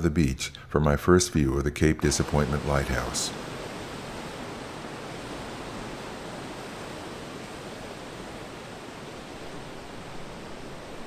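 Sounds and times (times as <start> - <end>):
ocean surf breaking on rocks: 2.1 - 11.0.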